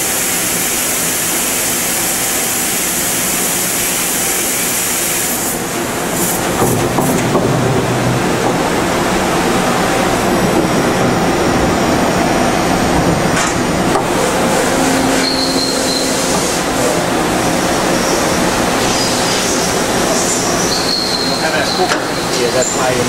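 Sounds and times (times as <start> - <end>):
high machine whine: 0.0 - 23.0
machining center humming and hissing: 0.0 - 23.0.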